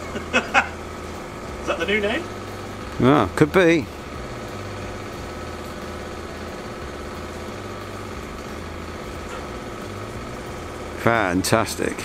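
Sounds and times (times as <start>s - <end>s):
steady engine-like drone: 0.0s - 12.0s.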